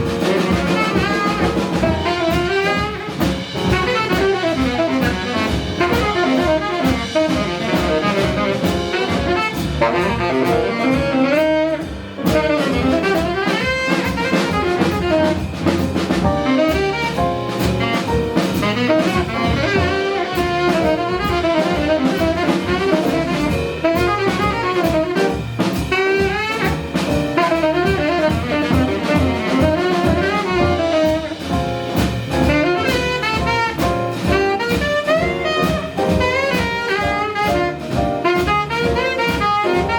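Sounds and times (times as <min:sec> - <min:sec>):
bass: 0:00.0 - 0:39.9
drum kit: 0:00.0 - 0:39.9
piano: 0:00.0 - 0:39.9
saxophone melodic runs: 0:00.0 - 0:39.9.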